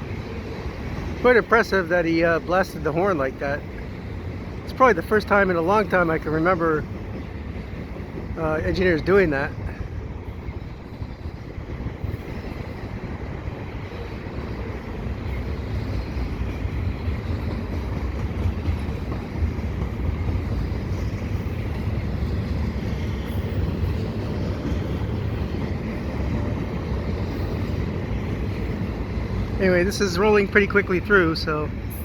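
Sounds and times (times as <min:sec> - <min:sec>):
freight train rumbling past: 0:00.0 - 0:32.0.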